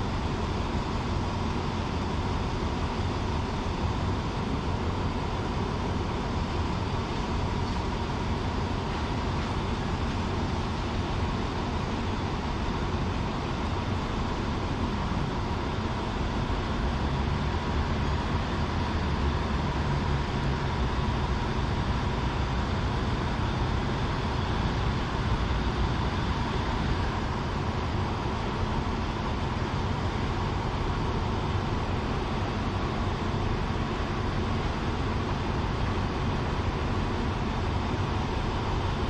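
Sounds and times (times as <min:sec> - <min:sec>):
diesel train rumble: 0:00.0 - 0:39.0.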